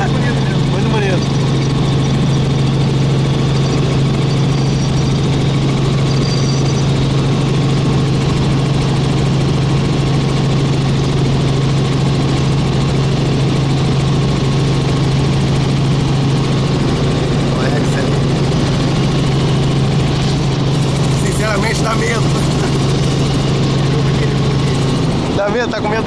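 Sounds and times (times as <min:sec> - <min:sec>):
helicopter engine and rotors: 0:00.0 - 0:26.0.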